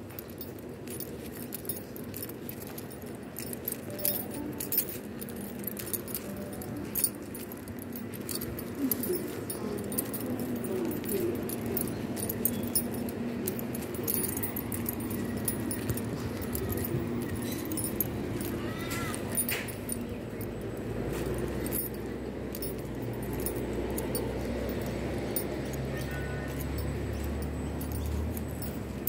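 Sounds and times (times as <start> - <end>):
background hum: 0.0 - 29.0
jingling and clicking items: 0.0 - 29.0.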